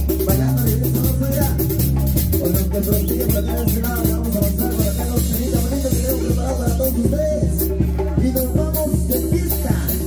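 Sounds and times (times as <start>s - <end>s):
live latin dance band: 0.0s - 10.0s.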